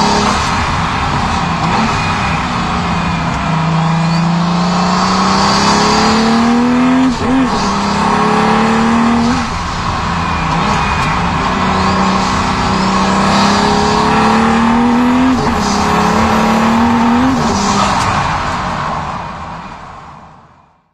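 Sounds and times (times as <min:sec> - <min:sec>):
sports car engine accelerating: 0:00.0 - 0:18.5.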